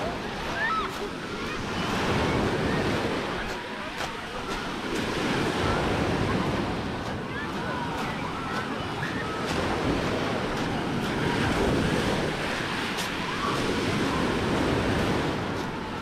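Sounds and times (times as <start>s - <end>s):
waves washing onto pebble shore: 0.0s - 16.0s
wind buffeting microphone: 0.0s - 16.0s.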